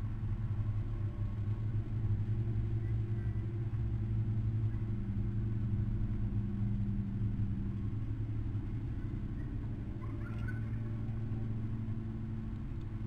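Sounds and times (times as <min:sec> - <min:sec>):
low hum with rumble: 0:00.0 - 0:13.0.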